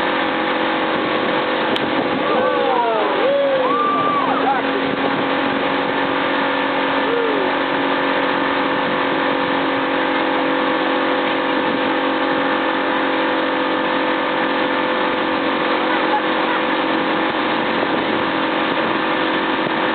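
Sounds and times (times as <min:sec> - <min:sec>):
motorboat engine running: 0:00.0 - 0:19.9.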